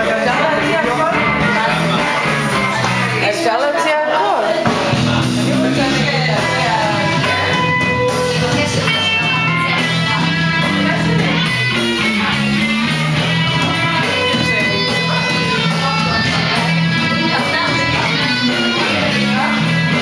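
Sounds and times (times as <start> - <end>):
bass line: 0.0 - 20.0
guitar music: 0.0 - 20.0.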